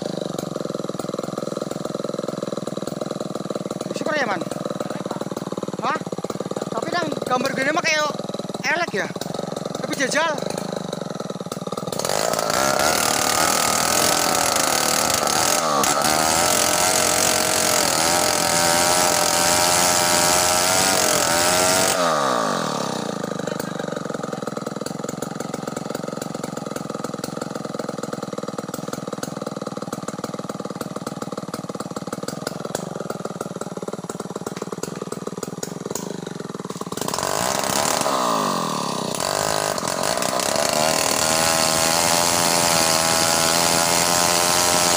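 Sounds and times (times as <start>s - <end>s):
chainsaw revving and idling: 0.0s - 44.9s.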